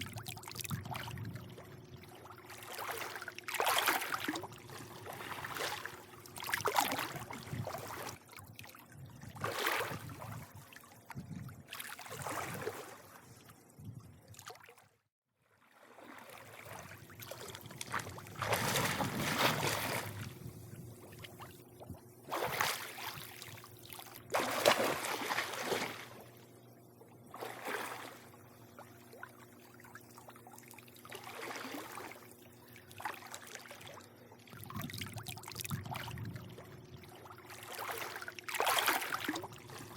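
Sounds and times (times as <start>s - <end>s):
faint steady hum: 0.0s - 14.5s, 15.8s - 39.9s
pool water lapping: 0.0s - 39.9s.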